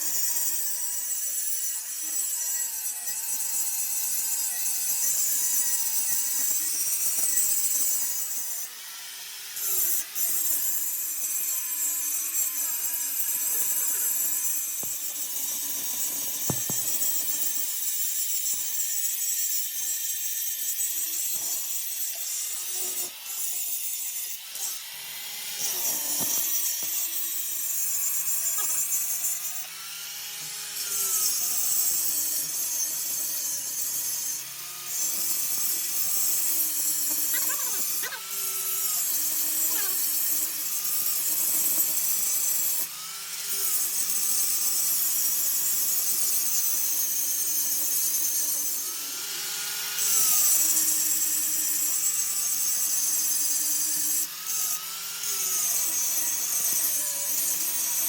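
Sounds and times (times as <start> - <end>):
power tool whining: 0.0 - 58.0.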